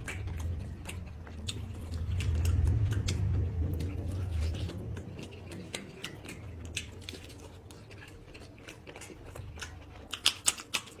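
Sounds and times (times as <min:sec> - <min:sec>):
wet mouth clicks from chewing: 0:00.0 - 0:11.0.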